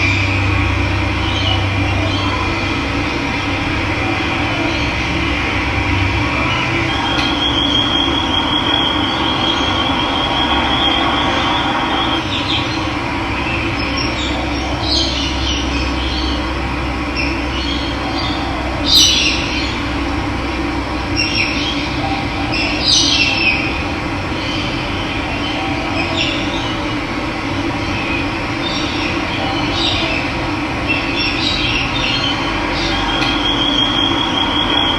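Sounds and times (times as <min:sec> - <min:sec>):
birds trilling and chirping: 0:00.0 - 0:34.9.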